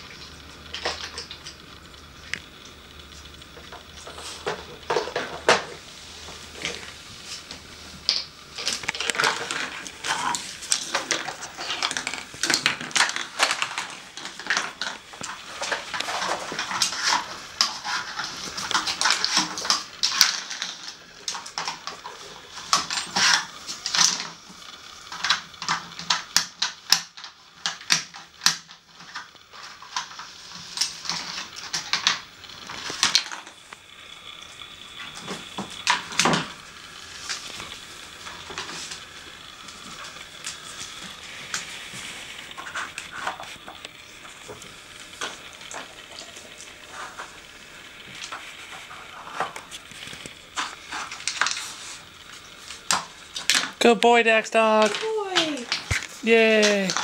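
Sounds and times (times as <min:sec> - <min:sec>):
plastic pieces rattling on wood floor: 0:03.5 - 0:06.9, 0:07.5 - 0:33.6, 0:35.0 - 0:57.0
plastic puzzle clattering: 0:08.0 - 0:33.6, 0:35.0 - 0:54.0, 0:54.6 - 0:57.0.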